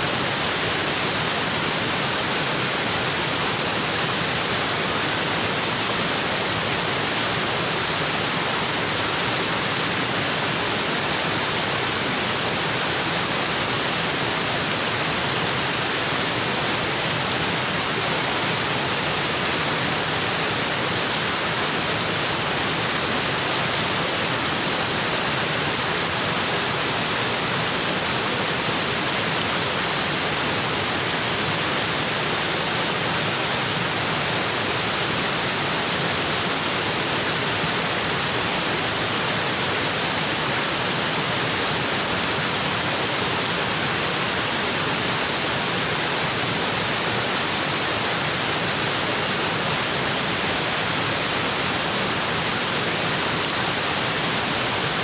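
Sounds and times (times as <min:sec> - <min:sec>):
waterfall onto rocks: 0:00.0 - 0:55.0.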